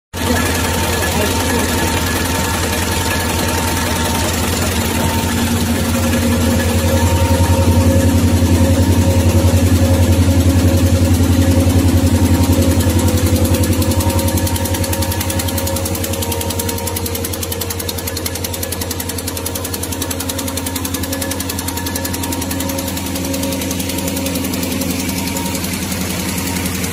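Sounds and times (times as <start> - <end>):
steady low hum: 0.2 - 26.9.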